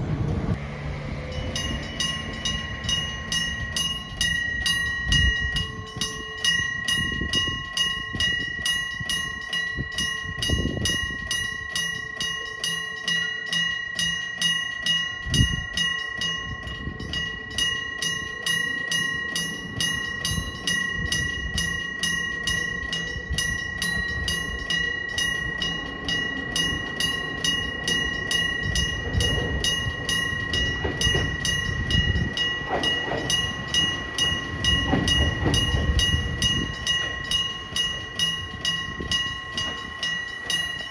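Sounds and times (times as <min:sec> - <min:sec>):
train rumbling: 0:00.0 - 0:11.7, 0:15.2 - 0:40.9
level crossing bell ringing: 0:00.0 - 0:40.9.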